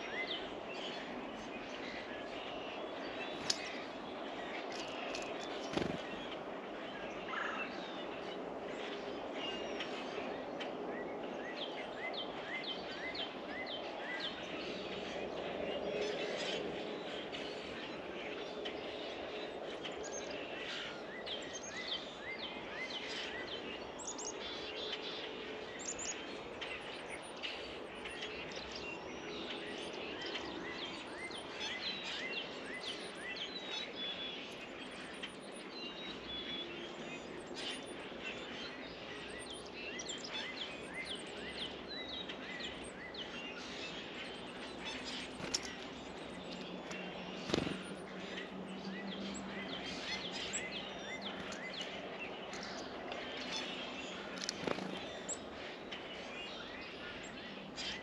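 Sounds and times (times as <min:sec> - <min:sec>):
songbirds chirping: 0:00.0 - 0:58.0
steady background noise: 0:00.0 - 0:58.0.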